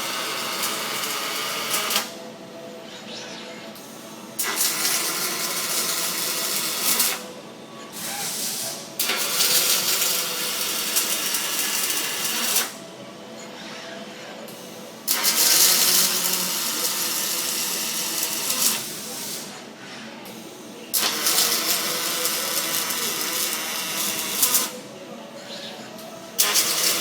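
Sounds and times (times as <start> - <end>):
arc welder crackling and hissing: 0.0 - 2.2, 3.8 - 12.9, 14.5 - 19.7, 20.3 - 24.9, 26.1 - 27.0.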